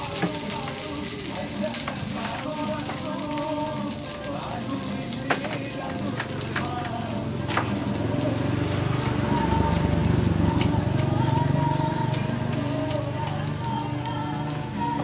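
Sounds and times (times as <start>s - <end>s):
rice sizzling in a wok: 0.0s - 15.0s.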